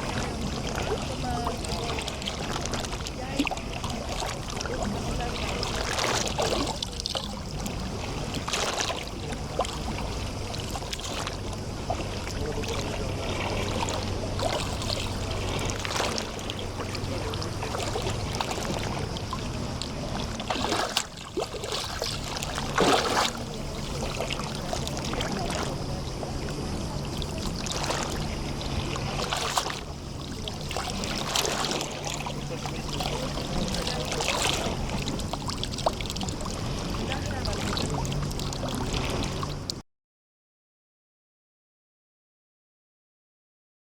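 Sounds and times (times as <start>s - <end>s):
distant boat motor drone: 0.0s - 39.8s
small waves lapping on shore: 0.0s - 39.8s.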